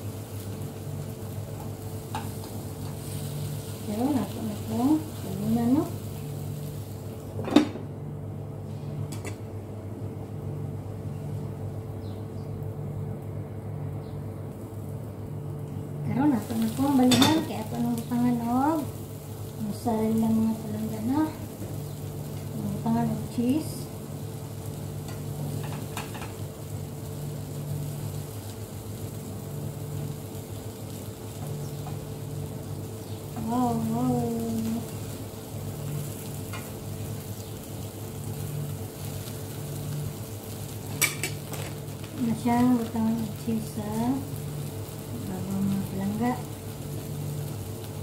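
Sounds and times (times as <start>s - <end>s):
frying pan sizzling: 0.0s - 11.8s, 14.4s - 48.0s
steady low hum: 0.0s - 48.0s.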